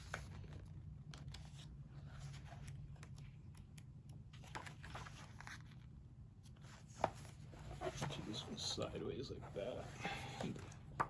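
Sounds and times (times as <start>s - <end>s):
book pages turning: 0.0s - 8.9s.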